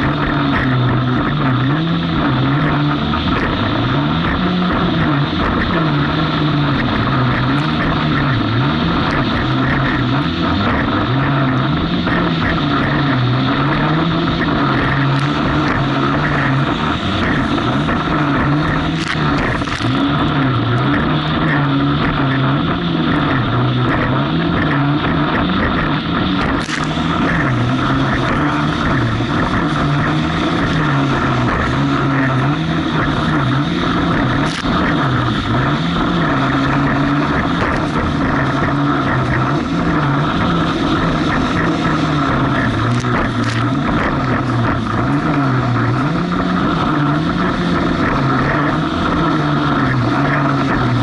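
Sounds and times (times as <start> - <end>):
jet ski engine running: 0.0 - 51.0
wind and water rushing: 0.0 - 51.0.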